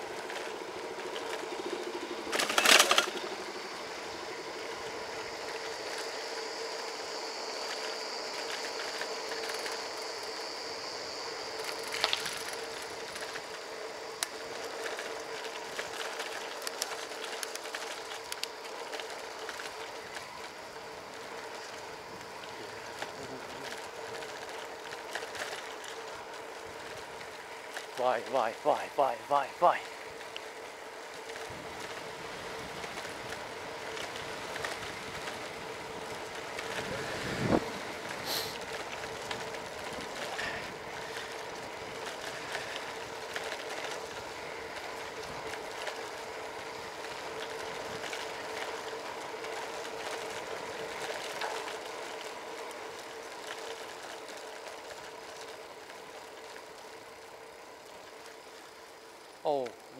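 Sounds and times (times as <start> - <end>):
vehicle running hum: 0.0 - 59.7.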